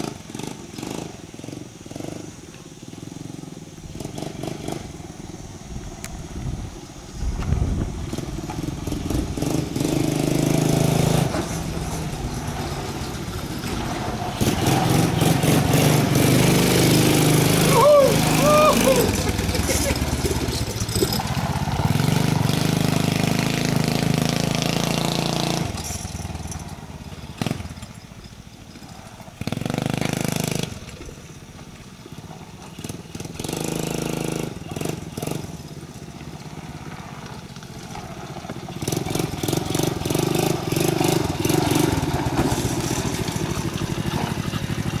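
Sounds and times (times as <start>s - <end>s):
quad engine revving: 0.0s - 6.6s, 7.5s - 45.0s.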